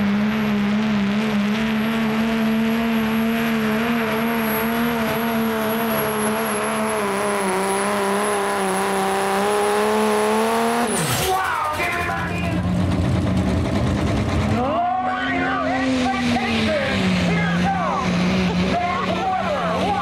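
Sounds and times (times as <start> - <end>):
diesel engine at full throttle: 0.0 - 20.0.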